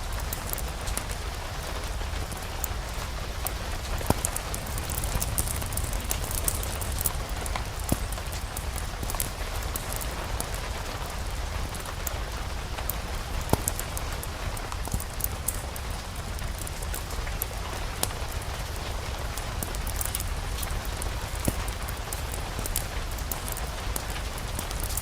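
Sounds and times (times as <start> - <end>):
steady rain falling: 0.0 - 25.0
wood fire crackling: 0.0 - 25.0.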